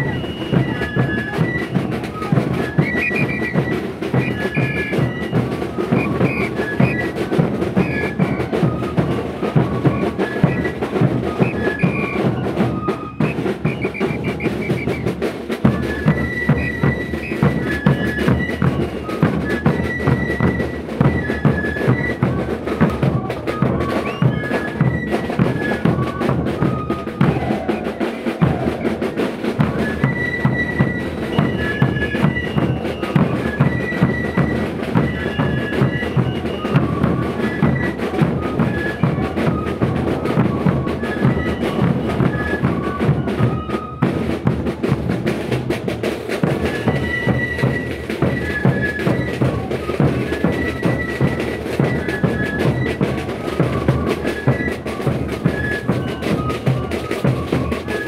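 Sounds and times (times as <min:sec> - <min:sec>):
high flute melody: 0:00.0 - 0:58.0.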